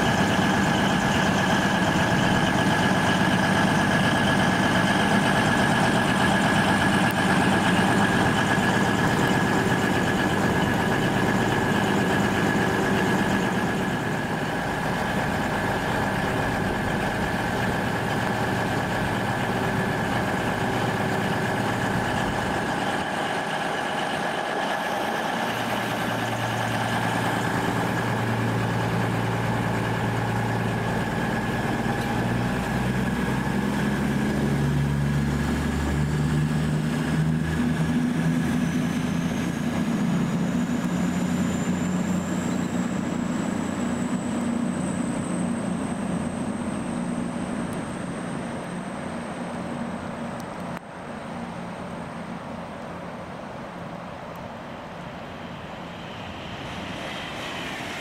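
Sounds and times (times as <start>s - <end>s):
faint rising whine: 0.0s - 58.0s
train engine running: 0.0s - 58.0s.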